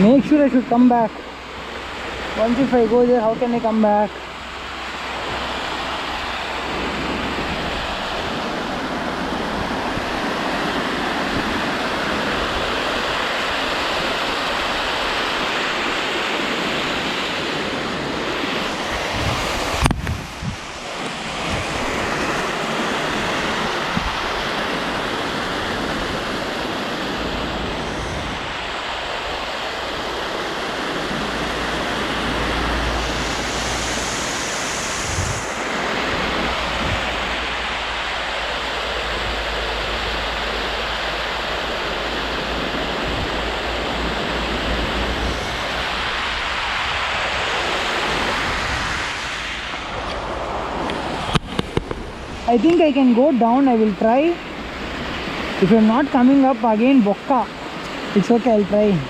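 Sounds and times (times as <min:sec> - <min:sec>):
waterfall roaring: 0:00.0 - 0:59.0
wind buffeting microphone: 0:00.0 - 0:59.0.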